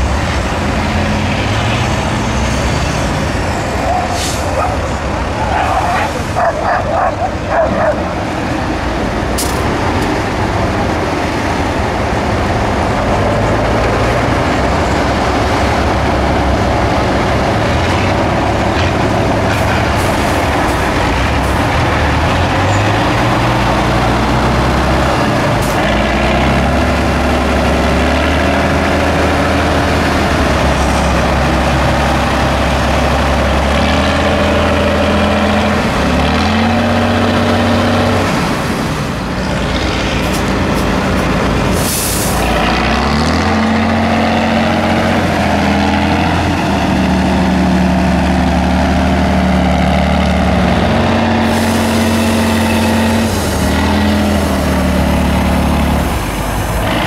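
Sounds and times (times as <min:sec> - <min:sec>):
truck diesel engine under load: 0:00.0 - 0:57.0.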